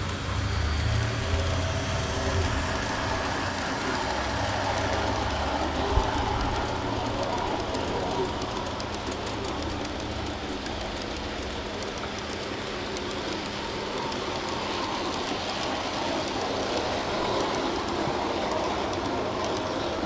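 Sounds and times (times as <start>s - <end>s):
model train wheels rumbling on rail: 0.0s - 20.0s.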